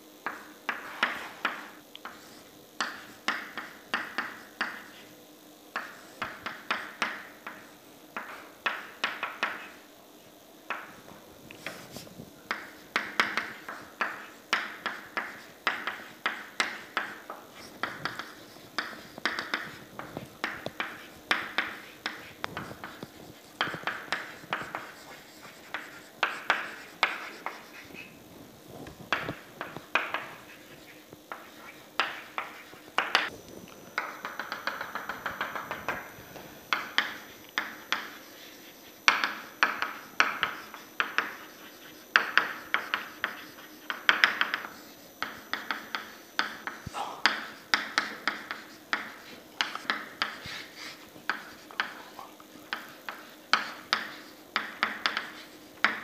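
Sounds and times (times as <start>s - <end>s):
chalk writing on a chalkboard: 0.2s - 28.2s, 28.8s - 33.3s, 34.0s - 36.1s, 36.7s - 56.0s.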